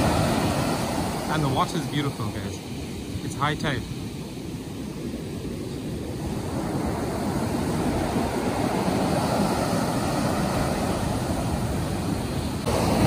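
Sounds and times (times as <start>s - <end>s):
surf breaking on beach: 0.0s - 13.0s.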